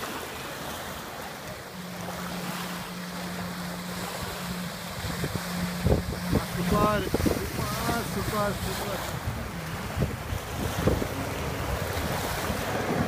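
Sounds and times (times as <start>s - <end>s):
jet ski engine humming: 0.0s - 13.0s
small waves washing: 0.0s - 13.0s
wind on microphone: 0.0s - 13.0s.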